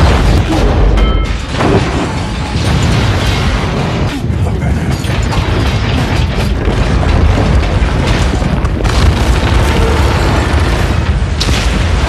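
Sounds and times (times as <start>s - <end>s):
deep rumble of crashing debris: 0.0s - 12.0s.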